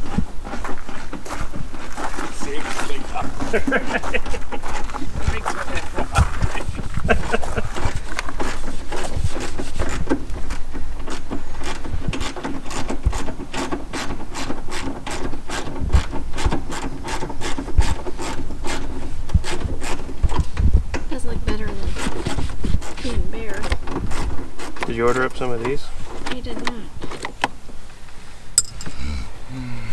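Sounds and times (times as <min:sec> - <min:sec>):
knocks and scraping: 0:00.0 - 0:27.8, 0:28.6 - 0:29.2.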